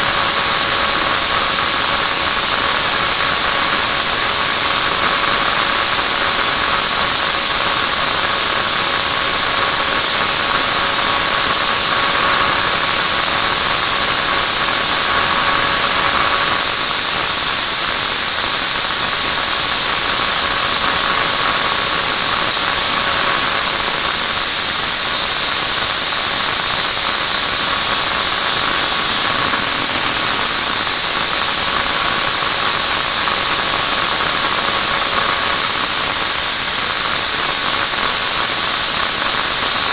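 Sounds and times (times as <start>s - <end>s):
angle grinder whining: 0.0s - 39.9s.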